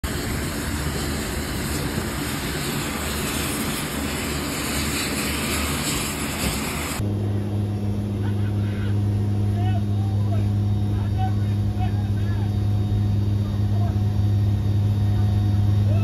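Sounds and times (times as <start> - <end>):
turbine aircraft roar: 0.0 - 16.0
turboprop engines droning: 0.0 - 16.0.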